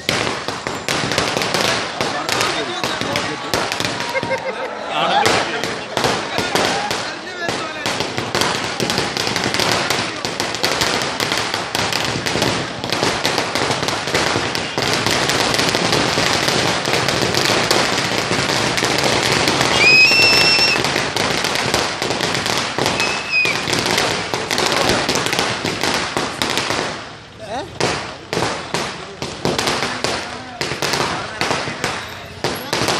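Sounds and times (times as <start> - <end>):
firecrackers bursting: 0.0 - 32.9.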